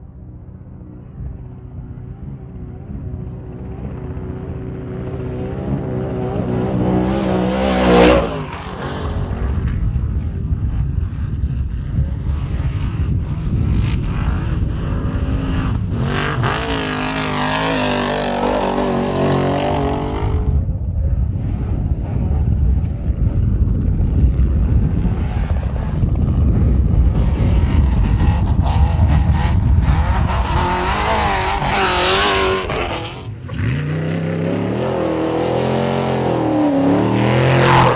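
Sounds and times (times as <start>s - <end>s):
truck engines revving and passing: 0.7s - 9.9s, 11.7s - 20.6s, 24.3s - 37.9s.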